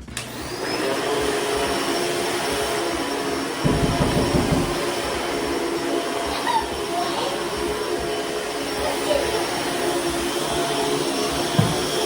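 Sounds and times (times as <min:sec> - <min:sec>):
vacuum cleaner motor running: 0:00.0 - 0:12.0.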